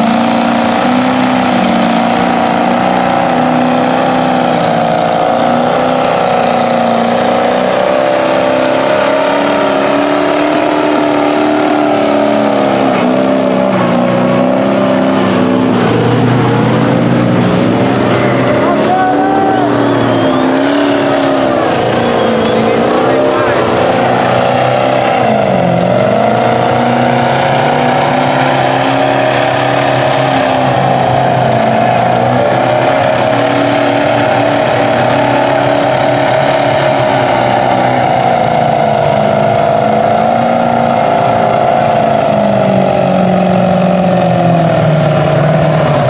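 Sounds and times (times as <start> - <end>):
truck churning through mud water: 0.0 - 46.0
truck engine revving: 0.0 - 46.0.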